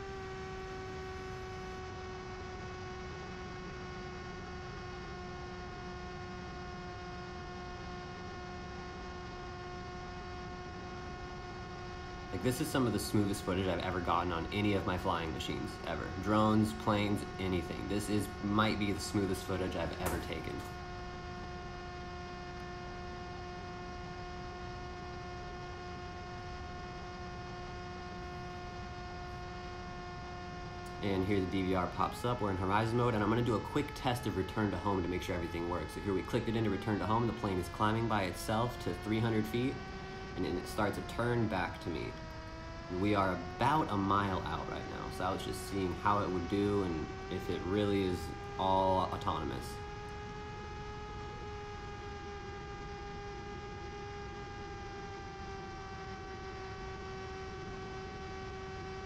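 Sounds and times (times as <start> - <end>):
electric motor propeller whine: 0.0 - 59.0.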